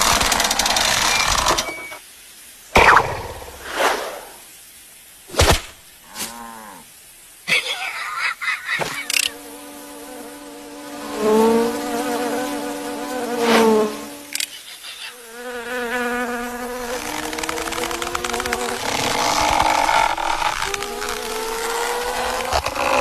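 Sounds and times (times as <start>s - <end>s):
insect-like buzzing hum: 0.0s - 4.6s, 5.3s - 23.0s.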